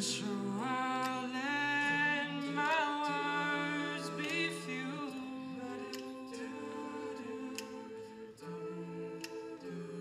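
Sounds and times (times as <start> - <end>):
a cappella group singing chords: 0.0 - 10.0.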